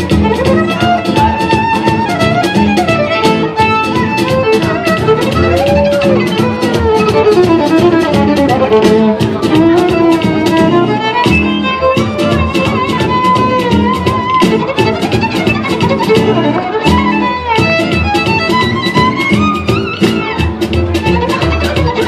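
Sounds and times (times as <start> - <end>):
amplified violin melody: 0.0 - 22.0
backing track with quick beat: 0.0 - 22.0.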